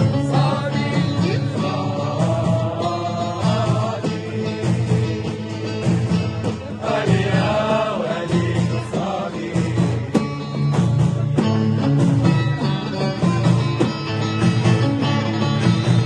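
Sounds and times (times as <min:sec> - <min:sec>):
music with singing voices: 0:00.0 - 0:16.0.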